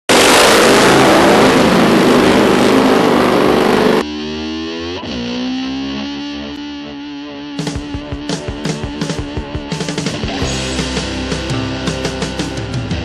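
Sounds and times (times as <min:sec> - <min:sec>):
distorted electric guitar: 0:00.1 - 0:13.0.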